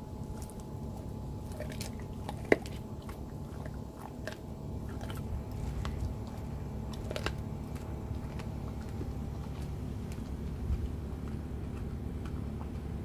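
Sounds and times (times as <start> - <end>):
dog chewing bone: 0.0 - 13.0.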